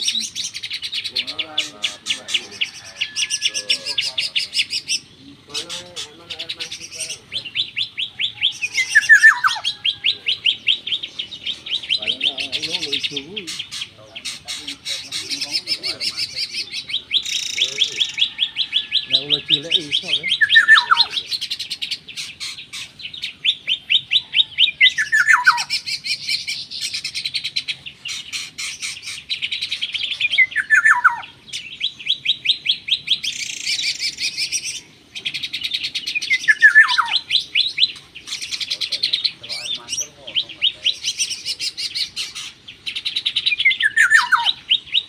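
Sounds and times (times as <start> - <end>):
songbird chirping: 0.0 - 45.0.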